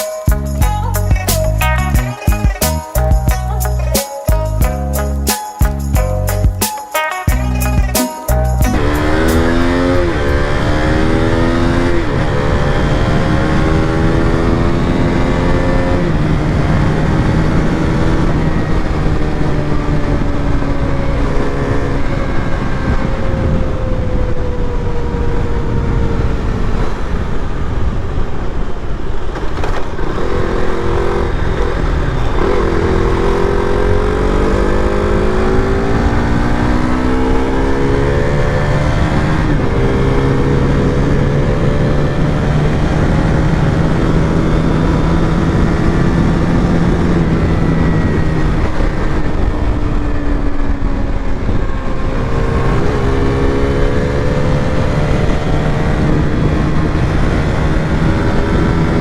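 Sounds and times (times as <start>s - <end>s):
motorcycle engine accelerating: 7.3s - 28.5s, 29.2s - 59.0s.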